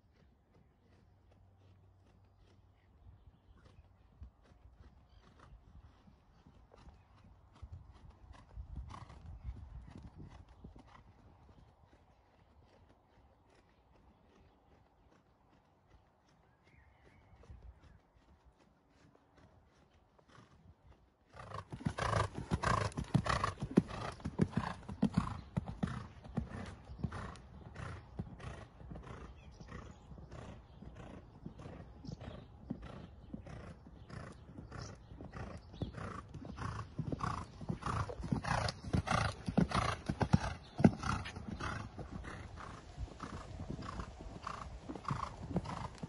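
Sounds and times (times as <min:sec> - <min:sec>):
horse hoofbeats on sand: 0:00.0 - 0:46.0.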